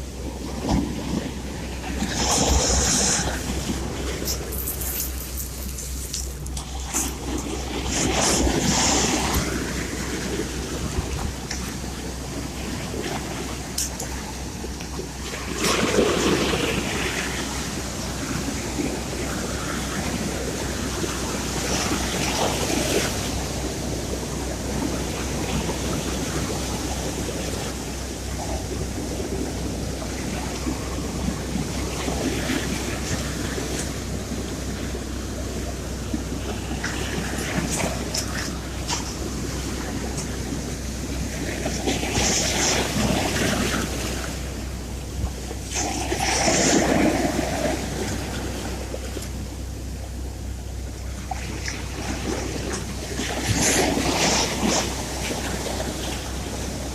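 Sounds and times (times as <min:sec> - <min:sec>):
steady low hum: 0:00.0 - 0:56.9
waves washing onto shore: 0:00.0 - 0:56.9.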